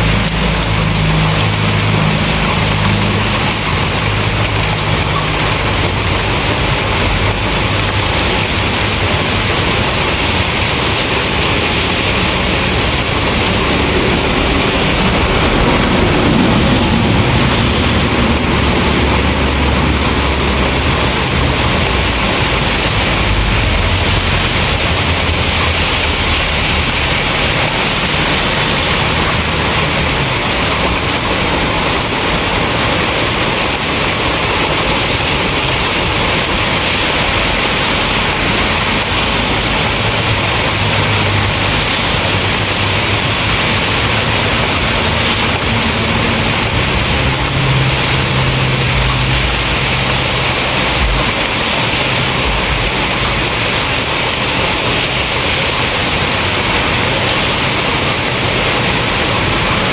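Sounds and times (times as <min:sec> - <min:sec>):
heavy rain falling: 0:00.0 - 0:59.9
low rumble: 0:00.0 - 0:59.9.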